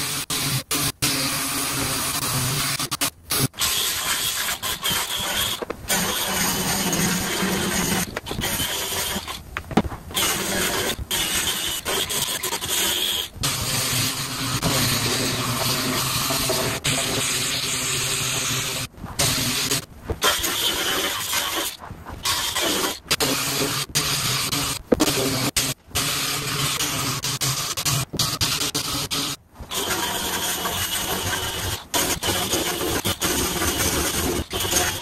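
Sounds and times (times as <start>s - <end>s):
air sander grinding fiberglass: 0.0s - 35.0s.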